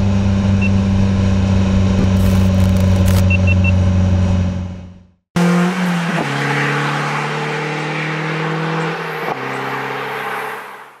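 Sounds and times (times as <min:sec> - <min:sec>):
car engine running hard: 0:00.0 - 0:10.2.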